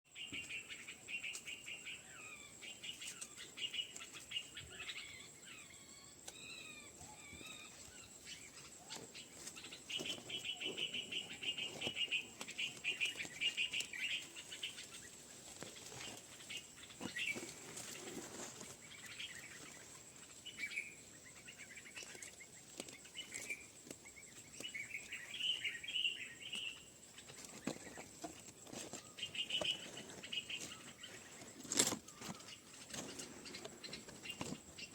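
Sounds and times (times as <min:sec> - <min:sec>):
baby birds chirping: 0:00.2 - 0:34.9.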